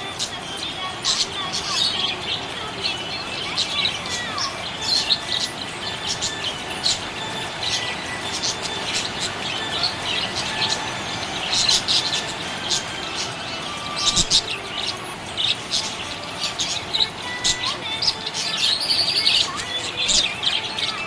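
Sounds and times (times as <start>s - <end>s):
budgerigars chirping: 0.0s - 21.0s
steady background hiss: 0.0s - 21.0s.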